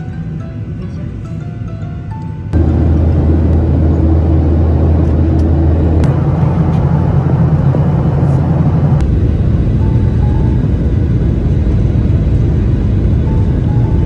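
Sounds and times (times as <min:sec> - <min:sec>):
vehicle engine rumble from inside: 0:00.0 - 0:14.0.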